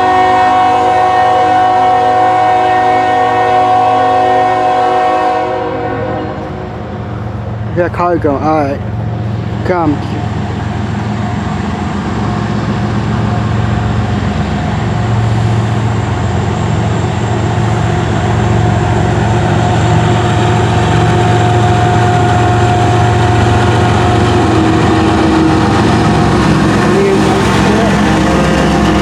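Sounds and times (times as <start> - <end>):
diesel locomotive rumble: 0.0 - 29.0.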